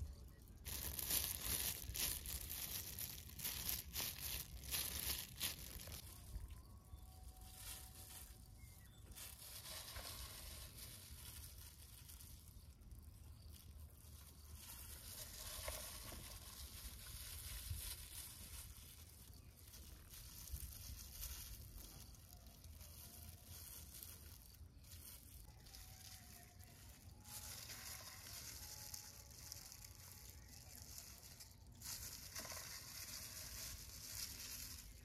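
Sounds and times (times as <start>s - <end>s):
plastic gloves crinkling: 0.0s - 35.0s.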